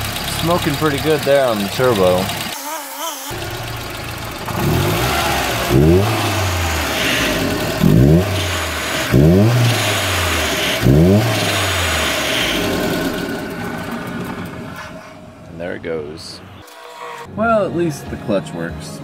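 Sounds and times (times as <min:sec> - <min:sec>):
car engine revving: 0:00.0 - 0:02.6, 0:03.3 - 0:17.3.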